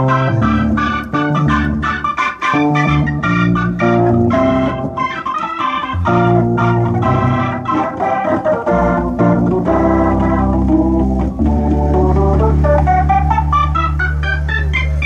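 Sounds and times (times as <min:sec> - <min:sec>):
electronic keyboard chords: 0:00.0 - 0:15.0.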